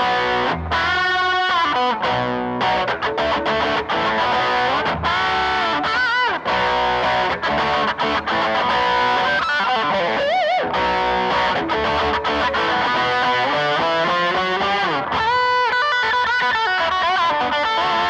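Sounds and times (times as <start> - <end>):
overdriven electric guitar lead: 0.0 - 18.0.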